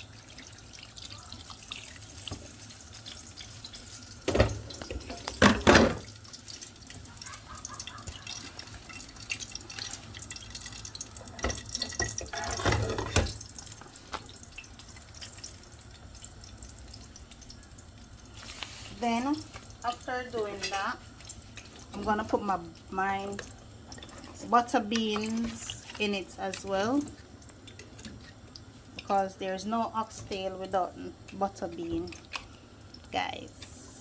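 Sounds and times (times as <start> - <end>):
water pouring and splashing: 0.0 - 33.9.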